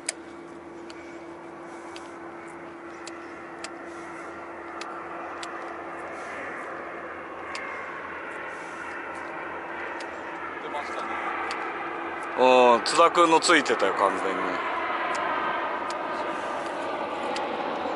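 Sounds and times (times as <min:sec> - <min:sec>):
engine drone: 0:00.0 - 0:17.9
wind: 0:00.0 - 0:17.9.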